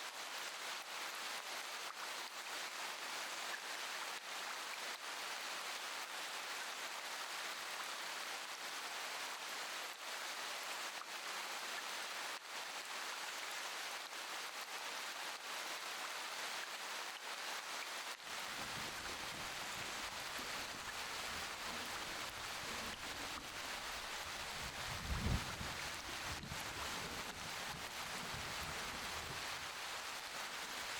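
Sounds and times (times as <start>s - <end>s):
rain hiss: 0.1s - 30.9s.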